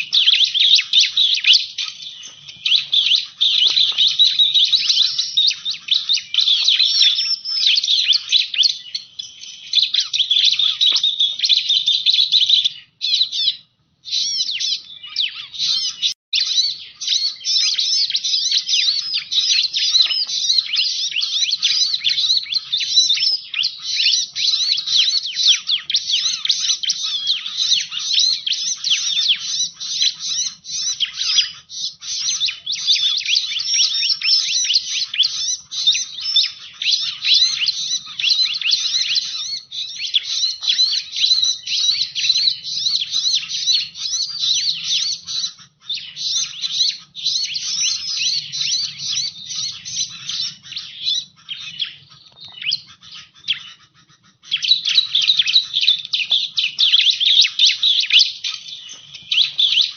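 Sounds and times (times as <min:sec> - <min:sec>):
bird high chirps: 0:00.0 - 0:59.9.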